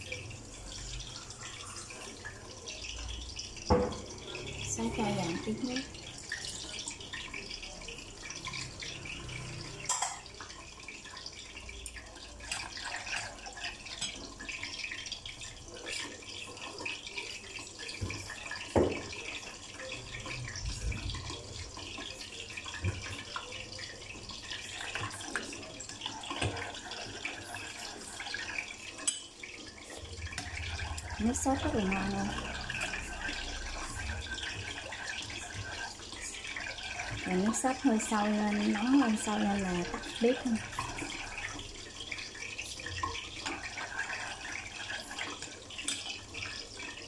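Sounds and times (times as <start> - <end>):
water pouring into a pot: 0.0 - 47.0.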